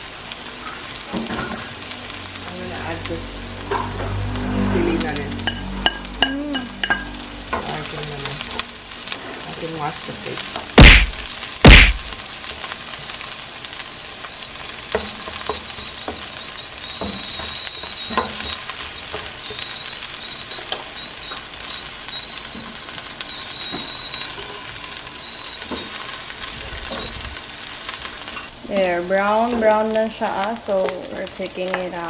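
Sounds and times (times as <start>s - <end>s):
food sizzling in a pan: 0.0s - 32.0s.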